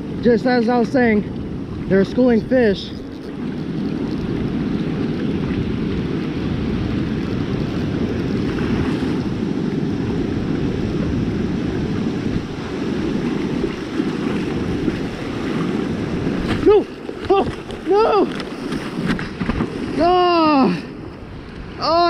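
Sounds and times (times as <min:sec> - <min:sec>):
ocean surf washing over sand: 0:00.0 - 0:22.0
wind rumble on microphone: 0:00.0 - 0:22.0.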